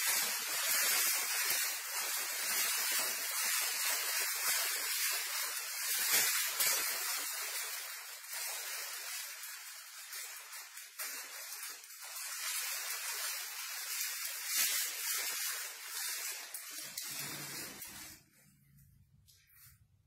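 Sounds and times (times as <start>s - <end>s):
plastic gown rustling and crinkling: 0.0s - 20.0s.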